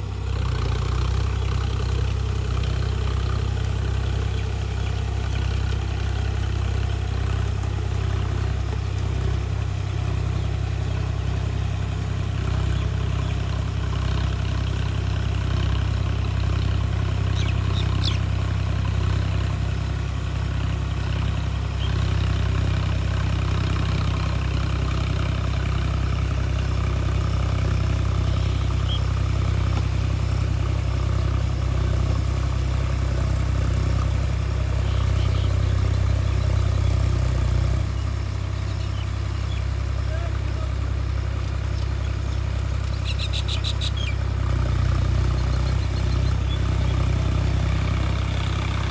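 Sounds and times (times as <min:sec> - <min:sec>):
tractor diesel engine droning: 0:00.0 - 0:48.9.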